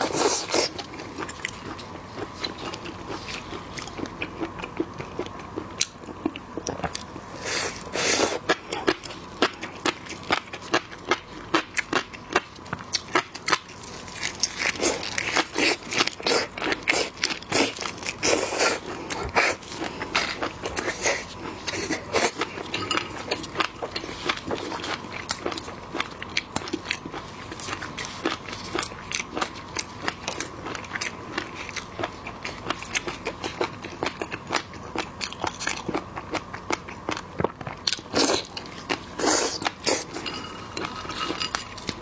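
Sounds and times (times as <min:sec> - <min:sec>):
crunching and chewing seafood: 0:00.0 - 0:42.0.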